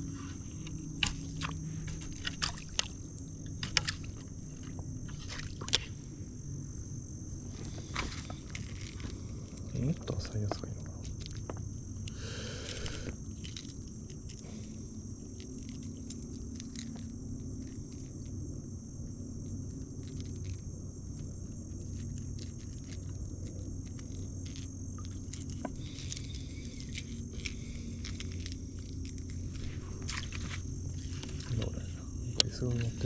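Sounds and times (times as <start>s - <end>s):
insects chorus: 0.0s - 33.0s
low steady hum: 0.0s - 33.0s.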